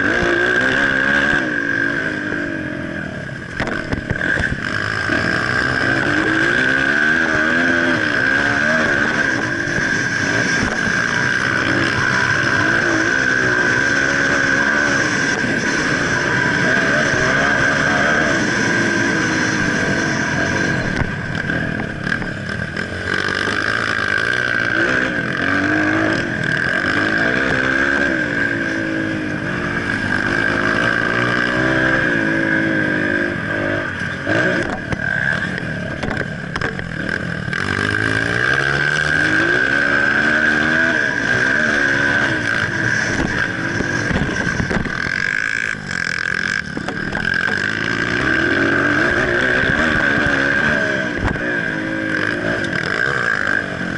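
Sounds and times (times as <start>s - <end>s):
dirt bike engine revving: 0.0s - 53.9s
steady high whine: 0.0s - 53.9s.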